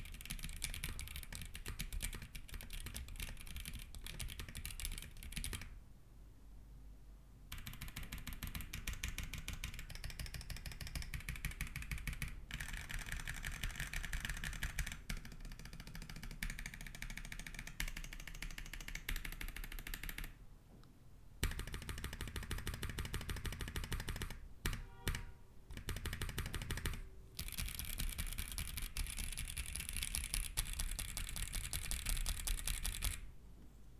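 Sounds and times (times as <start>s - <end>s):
fast mechanical keyboard typing: 0.0s - 5.8s, 7.5s - 20.4s, 21.4s - 33.3s.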